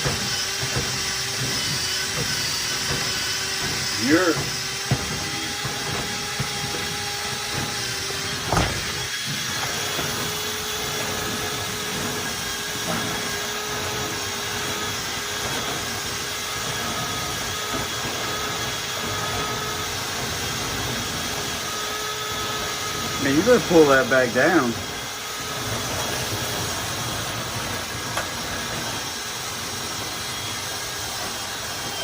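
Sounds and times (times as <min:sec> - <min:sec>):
electric drill running: 0:00.0 - 0:32.0.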